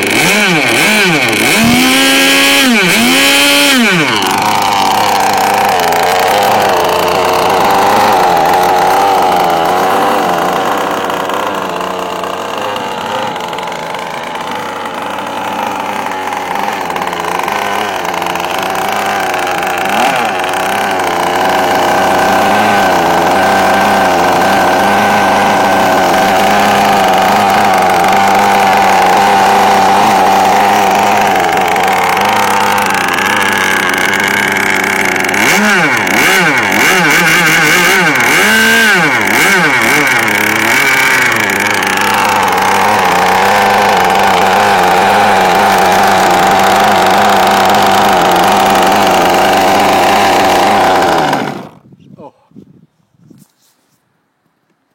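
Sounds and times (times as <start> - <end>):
engine running and revving: 0.0 - 51.8.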